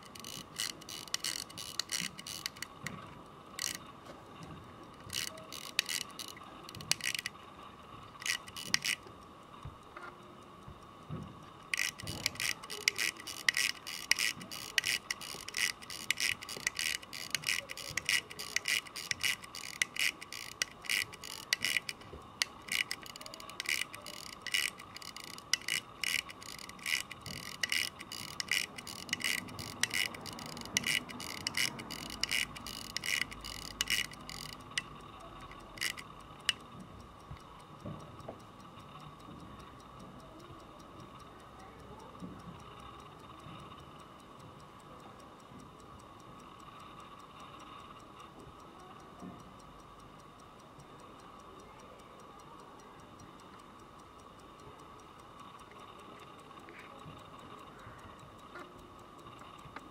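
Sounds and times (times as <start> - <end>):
pocket watch ticking: 0.0 - 59.9.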